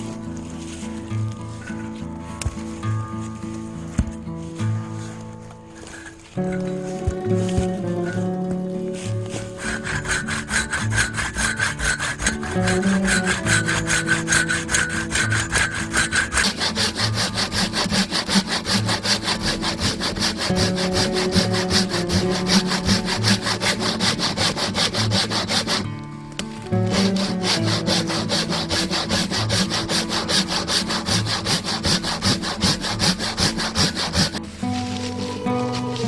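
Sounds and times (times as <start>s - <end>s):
hand saw cutting firewood: 0.0s - 36.0s.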